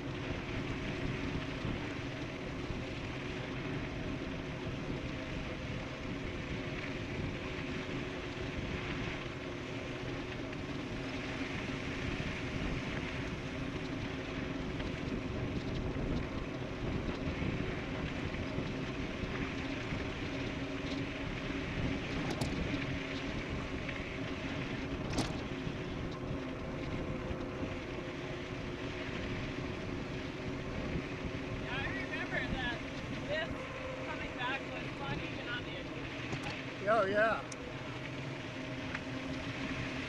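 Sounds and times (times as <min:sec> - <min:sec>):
electric bike humming: 0:00.0 - 0:40.0
rush of wind: 0:00.0 - 0:40.0.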